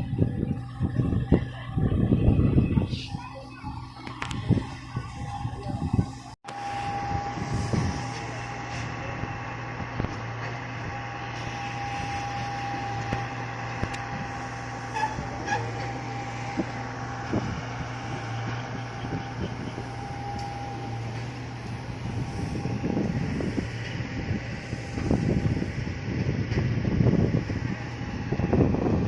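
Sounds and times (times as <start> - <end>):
constant whine: 0.0 - 29.0
engine drone: 0.0 - 29.0.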